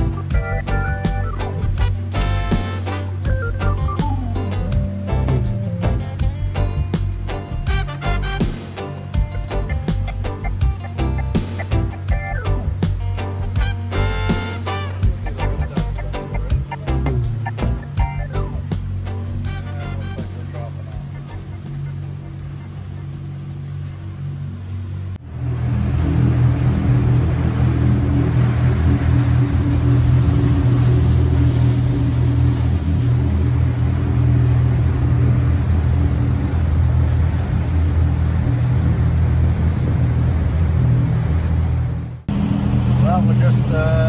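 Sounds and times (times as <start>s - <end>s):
boat engines droning: 0.0s - 44.0s
rush of wind and water: 0.0s - 44.0s.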